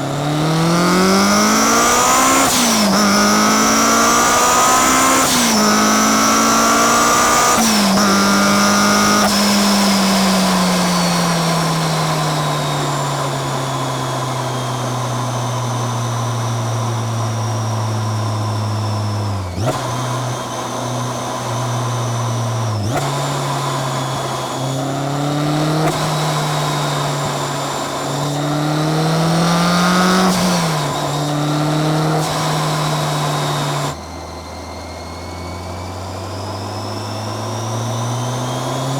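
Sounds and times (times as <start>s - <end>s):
car engine revving: 0.0s - 38.9s
supercharger whine: 0.0s - 38.9s.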